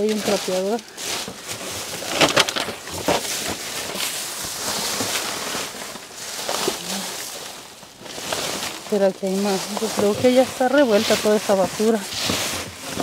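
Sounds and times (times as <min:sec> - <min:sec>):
trash rustling in dumpster: 0:00.0 - 0:13.0.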